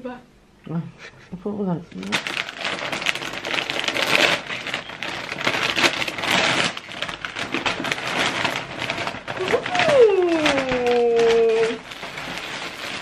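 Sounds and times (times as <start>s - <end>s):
wrapping paper crinkling and tearing: 1.9s - 13.0s.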